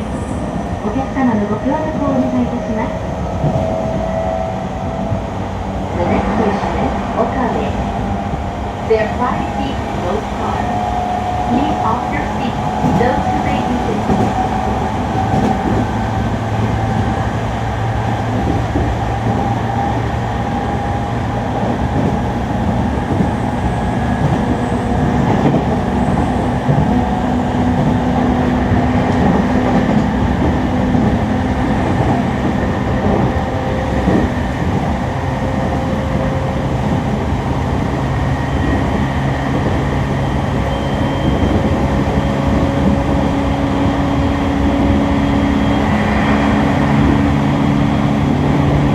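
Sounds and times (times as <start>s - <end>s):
wheels rumbling on rail: 0.0s - 48.9s.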